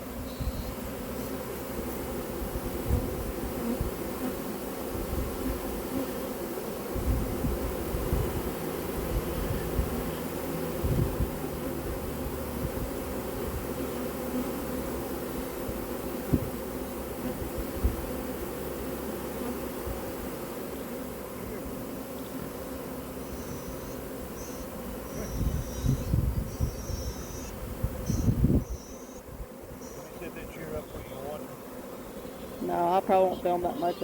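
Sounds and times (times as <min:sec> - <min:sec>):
bee swarm buzzing: 0:00.0 - 0:34.0.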